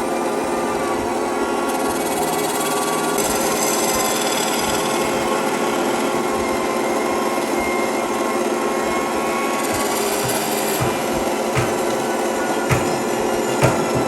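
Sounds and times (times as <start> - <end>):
power tool working wood: 0.0 - 14.0.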